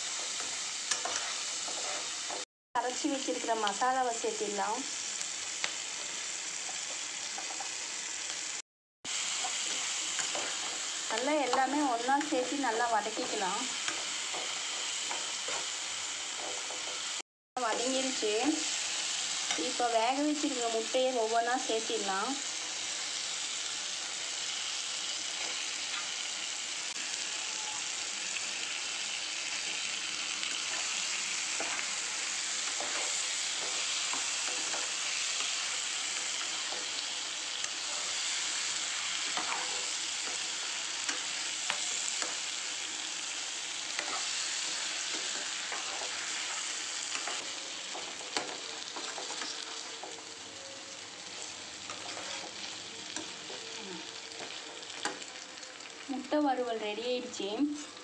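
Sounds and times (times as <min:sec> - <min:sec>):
oil sizzling: 0:00.0 - 0:58.0.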